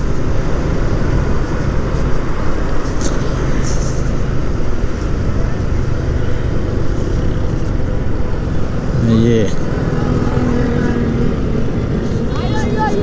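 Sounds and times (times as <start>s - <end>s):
motorcycle engine running: 0.0s - 12.4s
wind and road noise: 0.0s - 13.0s.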